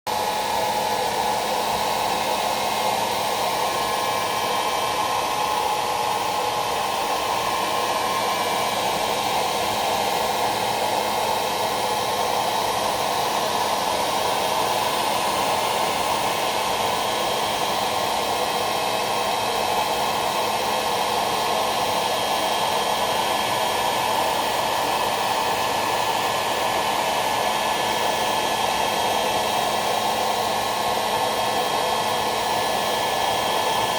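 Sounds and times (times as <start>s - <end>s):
hairdryer running: 0.1s - 33.9s.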